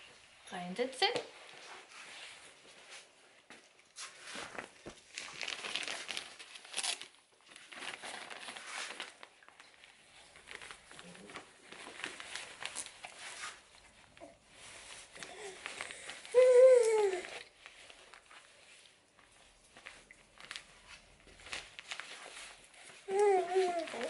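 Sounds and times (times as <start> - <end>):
cloth rustling and crinkling: 0.0 - 24.0.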